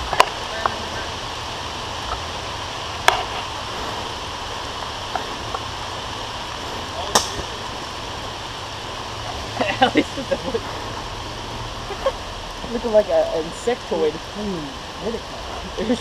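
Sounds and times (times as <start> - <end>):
light rain hiss: 0.0 - 16.0.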